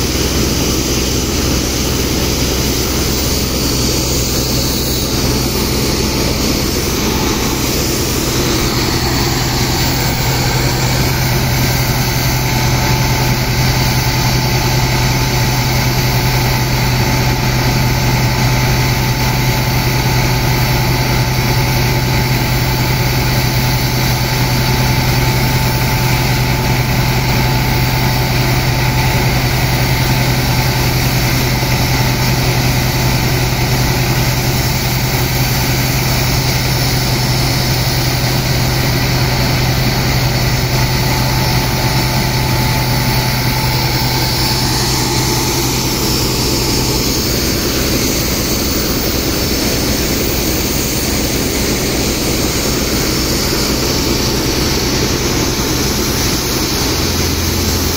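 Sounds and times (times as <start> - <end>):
pump engine droning: 0.0 - 57.9.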